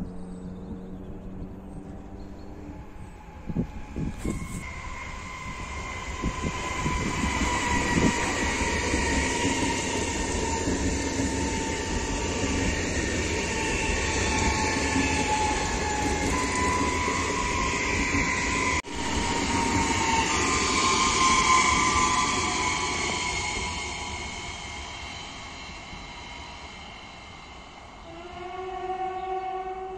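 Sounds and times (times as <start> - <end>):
high whine of train: 0.0 - 29.9
train wheels rushing on rail: 2.6 - 29.9.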